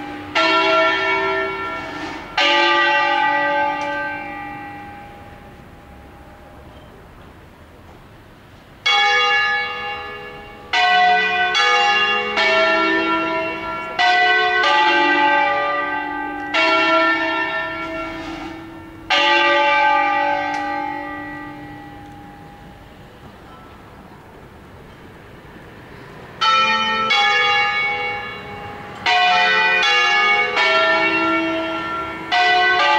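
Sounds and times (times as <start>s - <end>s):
church bells ringing: 0.0s - 7.4s, 8.8s - 32.9s.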